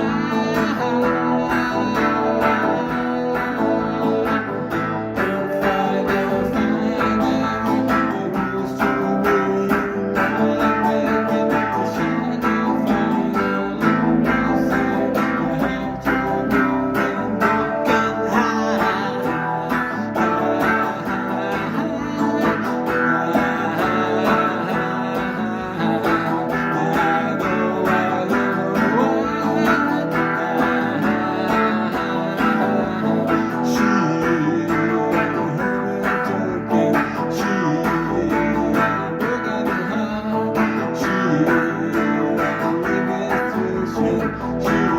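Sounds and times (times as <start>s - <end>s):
strummed guitar music: 0.0s - 44.9s.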